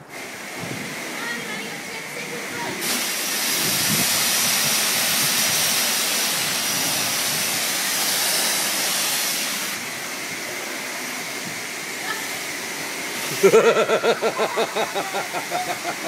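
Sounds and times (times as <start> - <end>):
pressure washer water jet hissing: 0.0 - 16.0.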